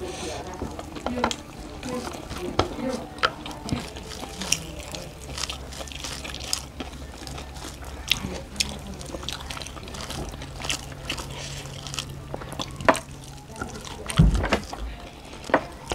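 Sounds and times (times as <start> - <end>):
low steady hum: 0.0 - 15.9
wet smacking and chewing: 0.0 - 15.9.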